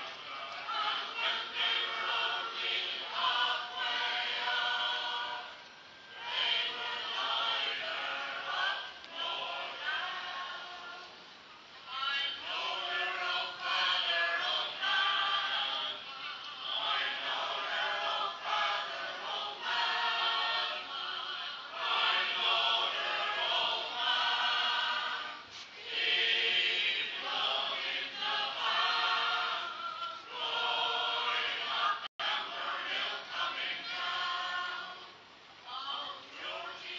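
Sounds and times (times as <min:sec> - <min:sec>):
choir singing unaccompanied: 0:00.0 - 0:11.2, 0:11.9 - 0:36.9.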